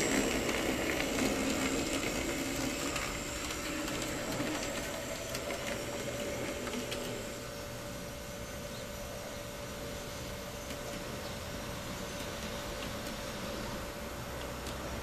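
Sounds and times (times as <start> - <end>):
model tram motor whirring: 0.0 - 15.0
wheels clicking on rails: 0.0 - 15.0.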